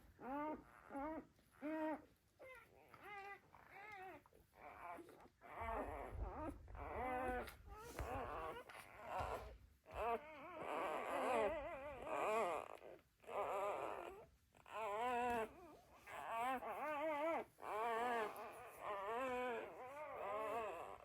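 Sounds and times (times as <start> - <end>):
dog whining: 0.0 - 21.0.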